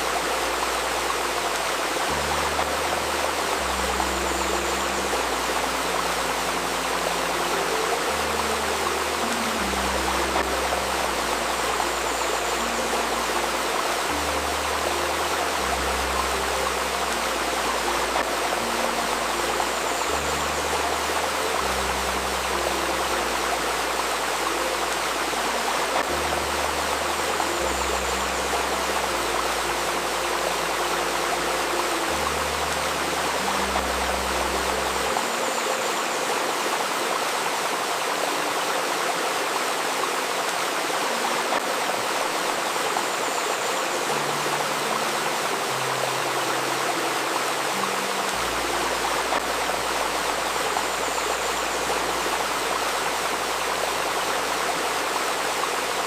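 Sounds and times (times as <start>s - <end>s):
low sustained synth notes: 0.0s - 56.0s
river stream babbling: 0.0s - 56.0s.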